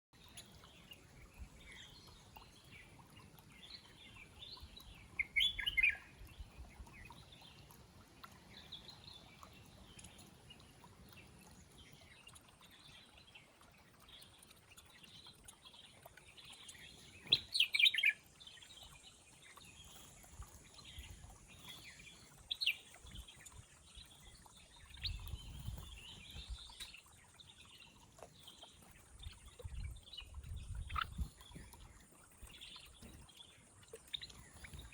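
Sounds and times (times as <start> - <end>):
garden birds chirping: 0.2 - 34.9.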